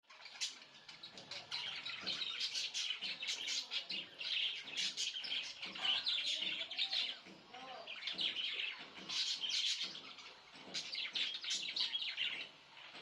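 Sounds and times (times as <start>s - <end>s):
budgerigars chirping: 0.1s - 13.0s.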